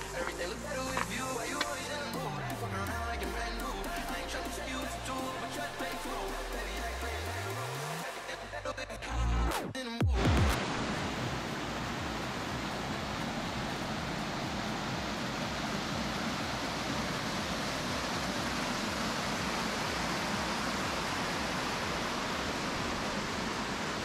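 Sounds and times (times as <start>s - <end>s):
water rushing down waterfall: 0.0s - 8.2s, 10.2s - 24.0s.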